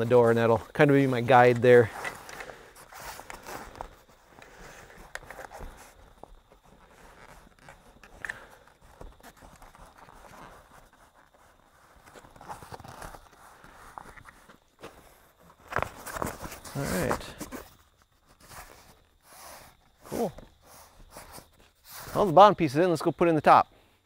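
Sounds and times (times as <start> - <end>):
canvas rustling and scuffing: 0.0 - 22.4.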